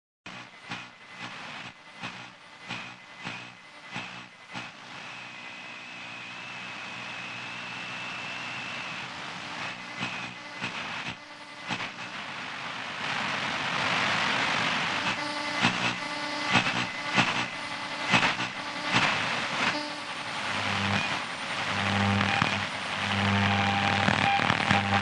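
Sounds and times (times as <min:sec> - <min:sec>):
crackles and pops: 0:00.3 - 0:25.0
radio static hissing: 0:00.3 - 0:25.0.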